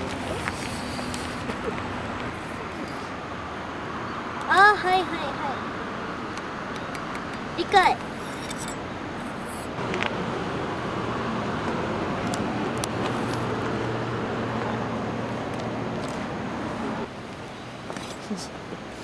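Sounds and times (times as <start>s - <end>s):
low engine-like hum: 0.0s - 18.6s
noisy wash: 0.0s - 19.0s.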